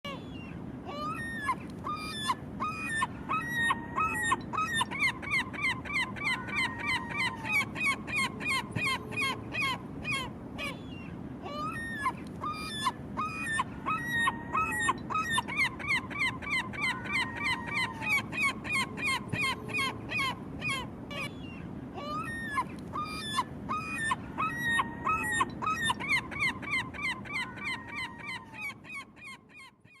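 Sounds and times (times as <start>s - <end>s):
low background noise: 0.0s - 30.0s
gull calling: 0.1s - 10.8s, 11.4s - 21.4s, 22.0s - 30.0s.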